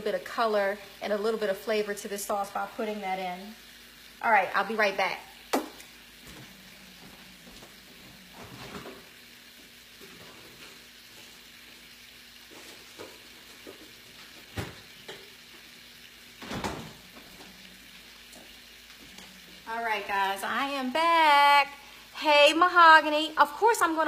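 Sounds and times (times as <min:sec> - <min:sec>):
sauce sizzling in a pan: 0:00.0 - 0:24.0.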